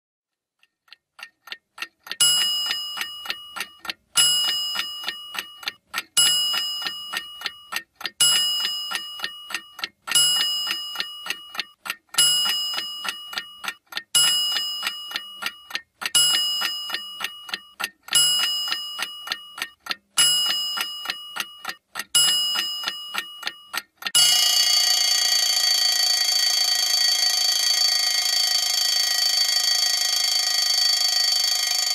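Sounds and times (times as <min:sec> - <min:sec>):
clock ticking: 0:00.3 - 0:31.9
alarm clock ringing: 0:02.2 - 0:31.9.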